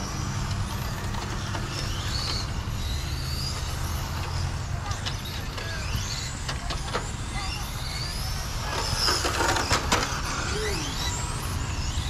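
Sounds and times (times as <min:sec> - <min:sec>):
toy car motors whining: 0:00.0 - 0:12.0.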